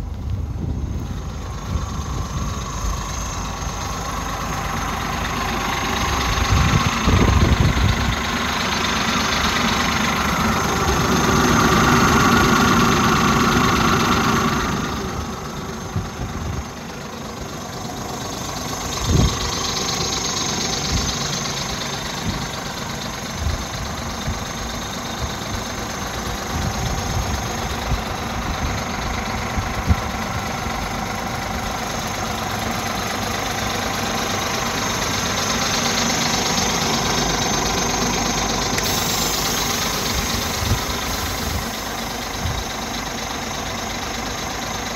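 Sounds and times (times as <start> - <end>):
truck diesel engine idling: 0.0 - 44.9.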